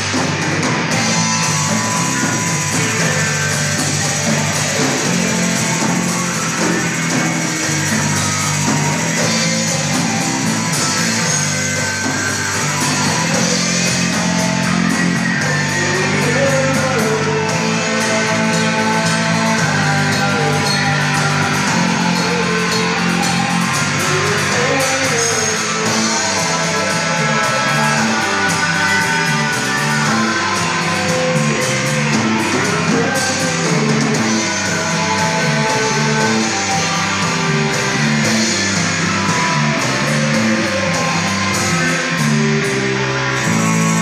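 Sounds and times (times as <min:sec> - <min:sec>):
man singing: 0:00.0 - 0:44.0
rock band playing live: 0:00.0 - 0:44.0.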